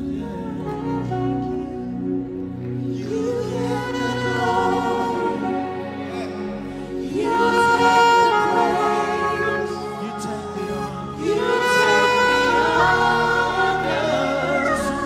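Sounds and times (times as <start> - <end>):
sustained chords: 0.0 - 15.0
group singing gospel music: 2.7 - 15.0.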